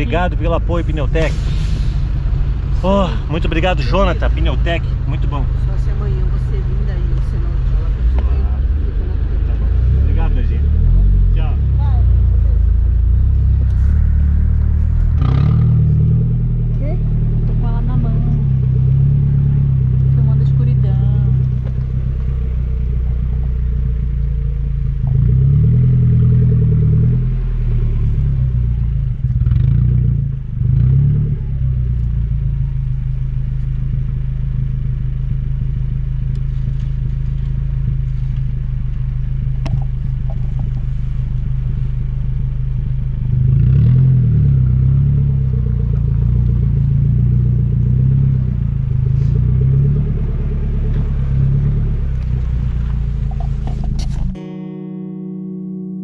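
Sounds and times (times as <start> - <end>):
vehicle engine humming: 0.0 - 55.3.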